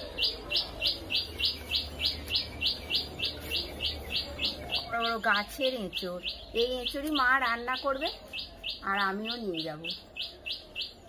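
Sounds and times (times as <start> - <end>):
small bird chirping rapidly: 0.0 - 11.0.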